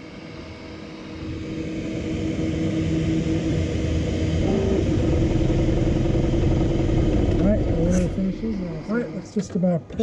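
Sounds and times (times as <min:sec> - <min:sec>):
cooling fans humming: 0:00.0 - 0:10.0
stepper motors whining: 0:00.0 - 0:10.0.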